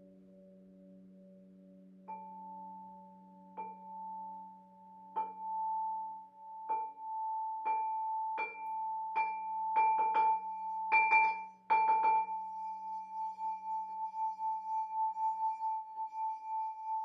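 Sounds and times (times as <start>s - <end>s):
lower singing bowl humming: 0.0s - 17.0s
high singing bowl ringing: 2.1s - 17.0s.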